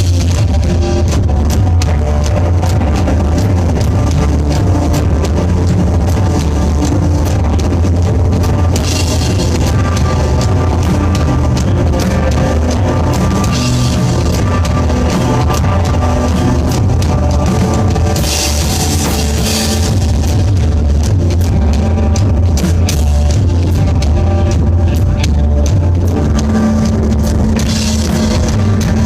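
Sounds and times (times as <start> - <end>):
rock band playing live: 0.0 - 29.0.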